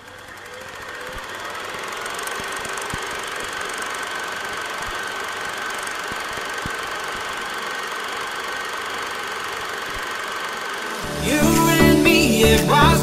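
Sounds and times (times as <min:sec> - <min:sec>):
mechanical whirr and rattle: 0:00.0 - 0:11.1.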